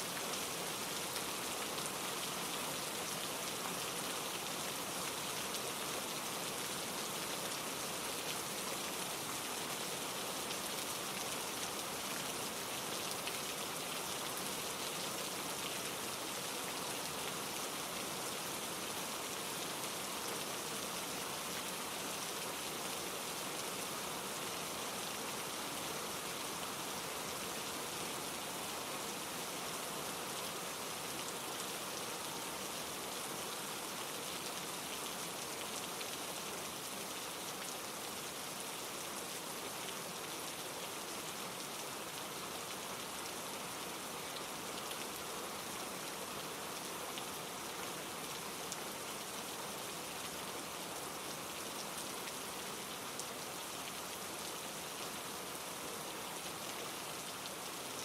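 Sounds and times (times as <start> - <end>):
rain falling through trees: 0.0 - 58.0
stream rushing over rocks: 0.0 - 58.0.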